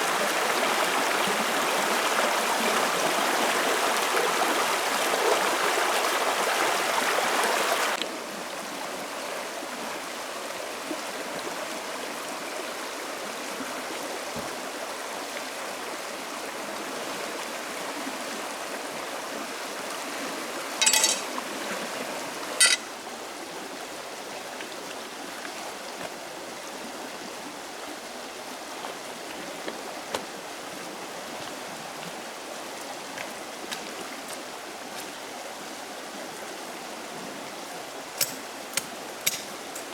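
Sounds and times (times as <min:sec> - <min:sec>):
forest stream rushing: 0:00.0 - 0:39.9.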